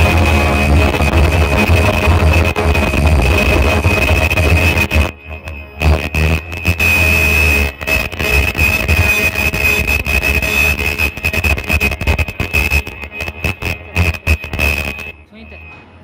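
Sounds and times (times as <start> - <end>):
machine whine and hum: 0.0 - 16.0.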